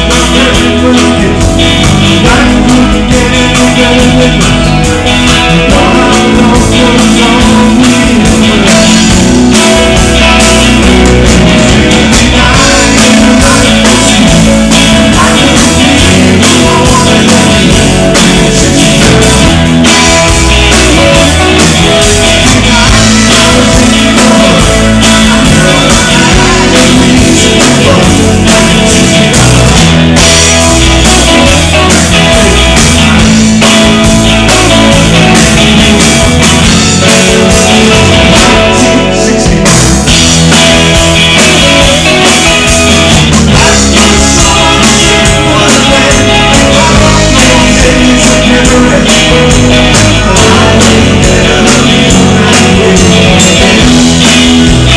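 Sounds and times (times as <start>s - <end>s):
bass guitar: 0.0s - 54.9s
drum kit: 0.0s - 54.9s
electric guitar: 0.0s - 54.9s.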